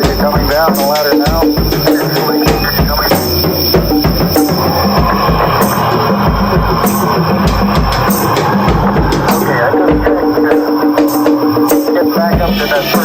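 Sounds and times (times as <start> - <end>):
drum kit solo: 0.0 - 13.0.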